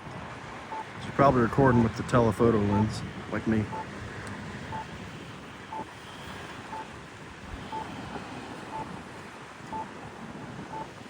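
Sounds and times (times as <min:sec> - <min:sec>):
traffic hum: 0:00.0 - 0:11.0
wind: 0:00.0 - 0:11.0.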